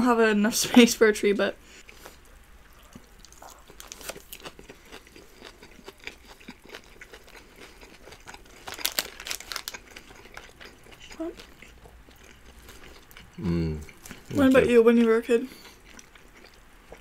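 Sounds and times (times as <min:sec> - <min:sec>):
chewing and crunching food: 0:01.7 - 0:17.0.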